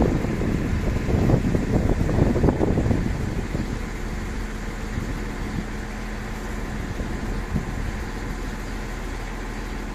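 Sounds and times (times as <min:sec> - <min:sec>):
train diesel engine droning: 0:00.0 - 0:09.9.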